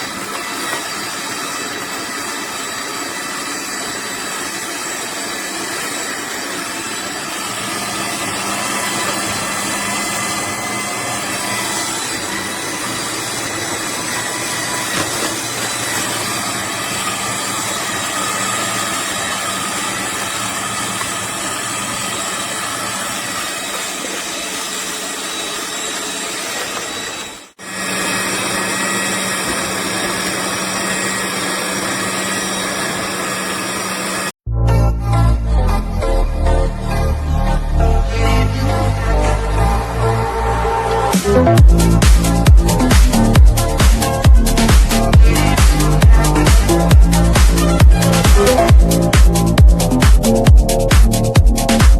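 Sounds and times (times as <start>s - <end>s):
juicer motor hum and whine: 0.0s - 34.4s, 36.6s - 51.8s.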